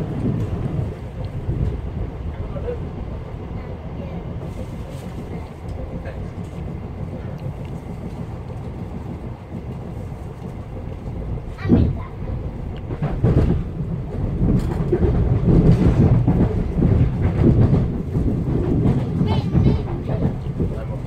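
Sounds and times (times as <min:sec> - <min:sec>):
train interior rumble: 0:00.0 - 0:21.0.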